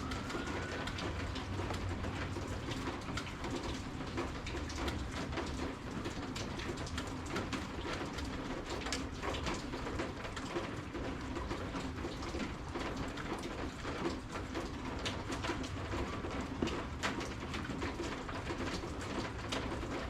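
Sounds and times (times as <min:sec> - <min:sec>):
rain pattering and dripping: 0:00.0 - 0:20.0.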